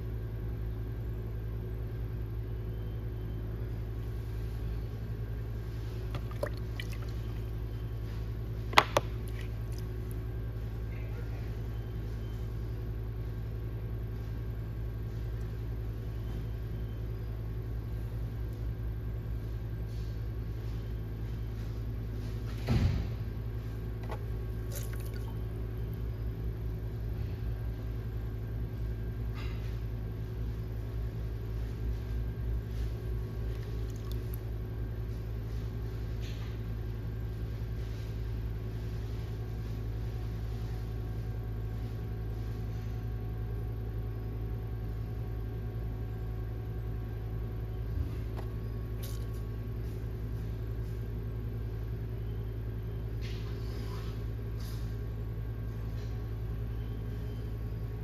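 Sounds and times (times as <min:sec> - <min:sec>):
pottery wheel motor humming: 0:00.0 - 0:58.0.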